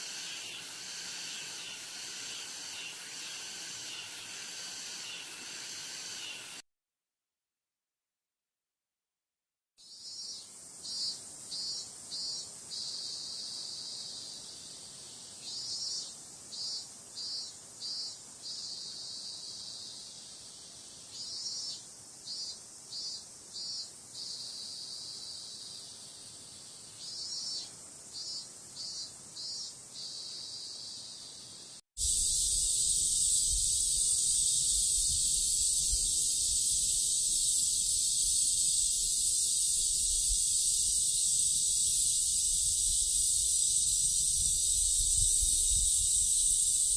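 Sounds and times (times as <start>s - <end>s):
cicada pulsing calls and buzz: 0.0s - 6.6s, 9.8s - 46.9s
cicadas high buzz: 0.0s - 6.6s, 9.8s - 46.9s.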